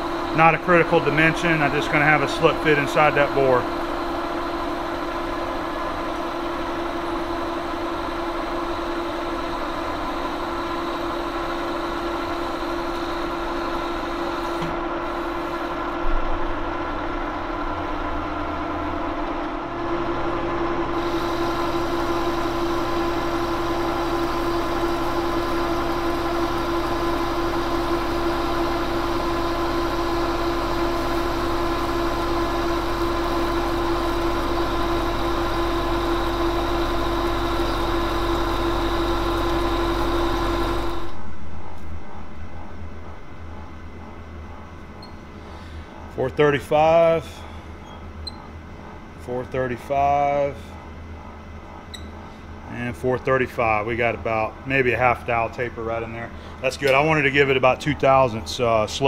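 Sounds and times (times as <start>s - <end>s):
lathe humming with whine: 0.0s - 59.0s.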